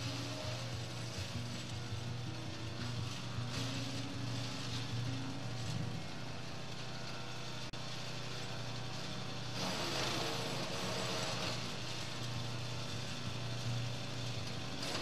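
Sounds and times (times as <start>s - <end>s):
wood chipper engine running: 0.0s - 15.0s.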